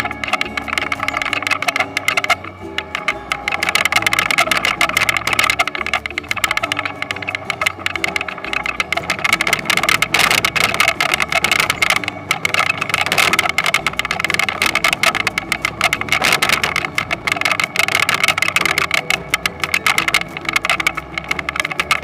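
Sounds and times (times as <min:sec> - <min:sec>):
fast rattling clatter: 0:00.0 - 0:22.0.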